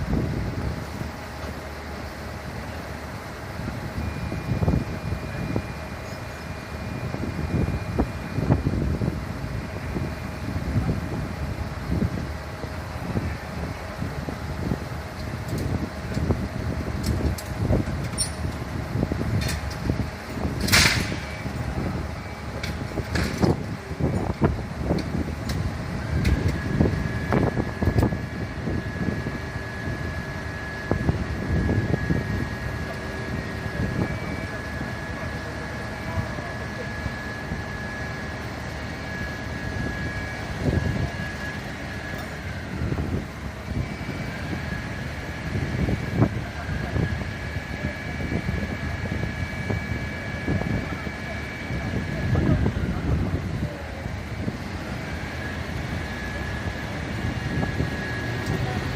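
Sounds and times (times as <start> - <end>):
high-pitched whine: 0.0 - 58.9
large engine rumbling: 0.0 - 58.9.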